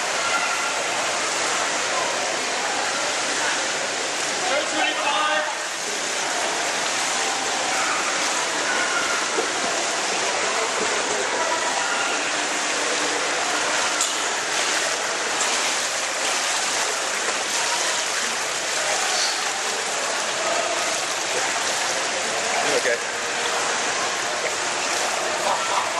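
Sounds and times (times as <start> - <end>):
faint voices: 0.0 - 25.9
pool water lapping and splashing: 0.0 - 25.9.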